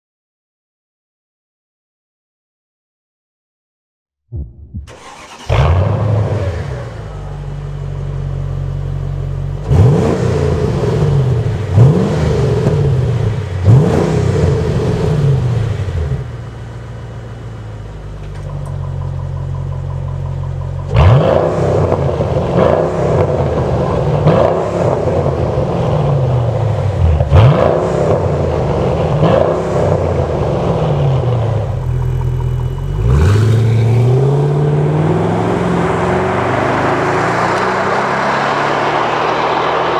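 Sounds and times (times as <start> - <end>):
car engine idling and revving: 4.4 - 39.9.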